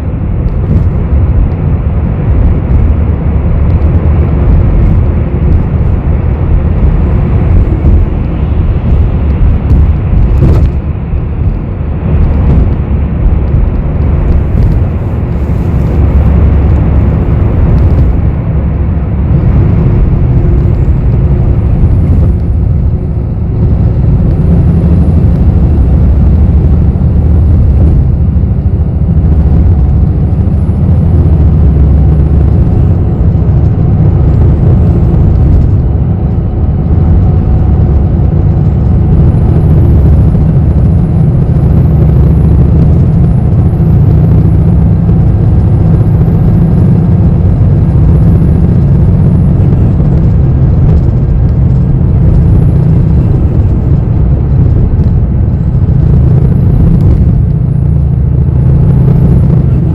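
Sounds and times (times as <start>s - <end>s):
bus engine rumble: 0.0s - 59.9s.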